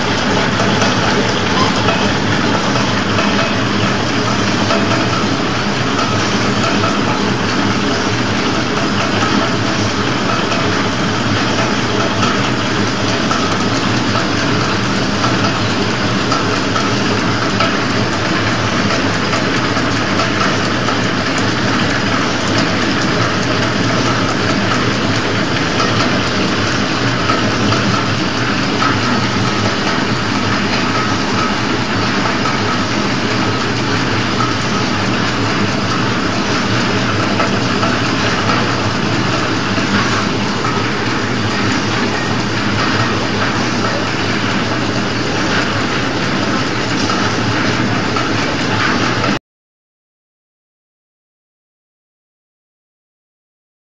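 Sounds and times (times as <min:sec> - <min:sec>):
packaging machine running: 0:00.0 - 0:49.4.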